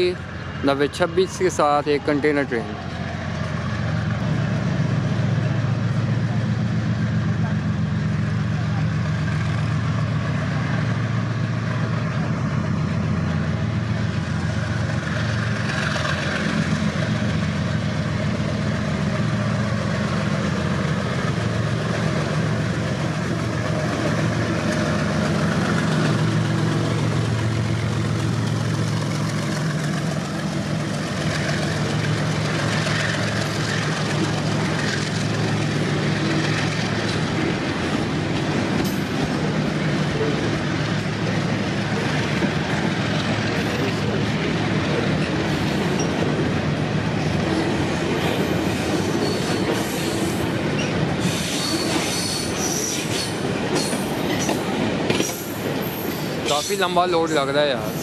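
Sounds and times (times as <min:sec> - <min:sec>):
locomotive engine drone: 0:00.0 - 0:58.0.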